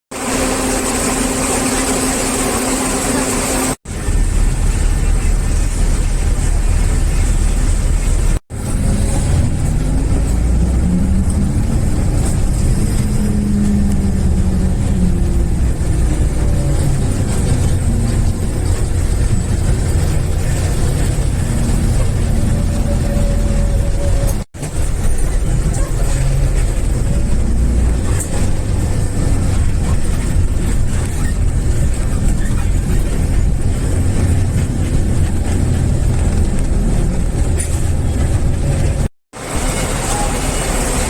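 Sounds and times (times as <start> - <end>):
bus engine rumbling and accelerating: 0.1 - 41.0.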